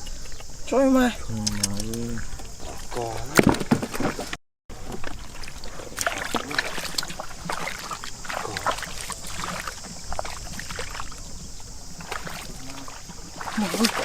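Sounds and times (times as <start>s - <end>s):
shallow water sloshing and splashing: 0.0s - 14.0s.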